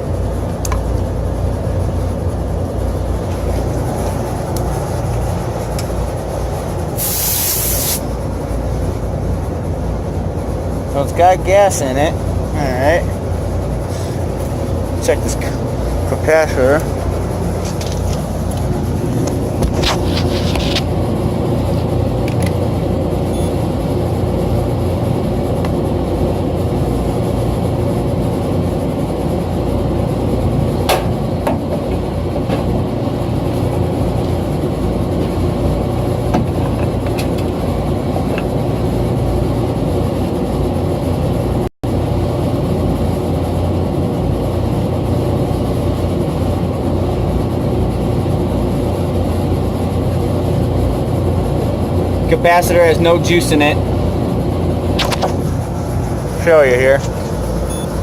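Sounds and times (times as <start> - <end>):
machinery droning: 0.0 - 58.0.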